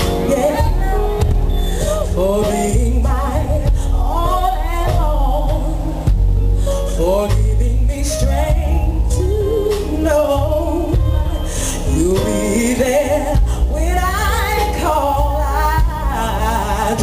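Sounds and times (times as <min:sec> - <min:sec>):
band with bass and keyboards: 0:00.0 - 0:17.0
woman singing with vibrato: 0:00.0 - 0:17.0.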